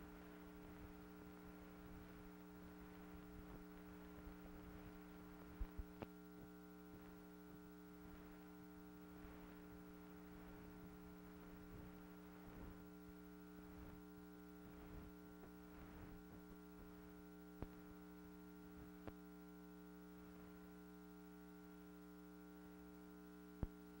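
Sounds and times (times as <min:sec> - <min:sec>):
electrical hum with hiss: 0:00.0 - 0:24.0.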